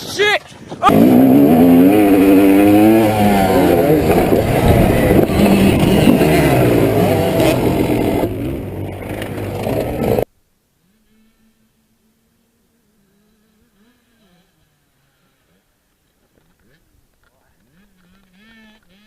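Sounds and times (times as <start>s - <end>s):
dirt bike engines revving: 0.0s - 10.3s, 10.9s - 19.0s.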